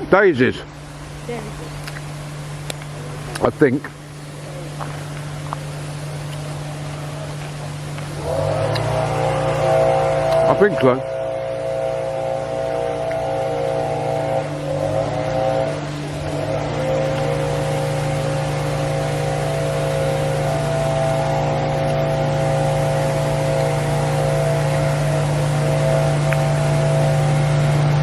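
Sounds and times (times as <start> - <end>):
engine droning hum: 0.0 - 28.0.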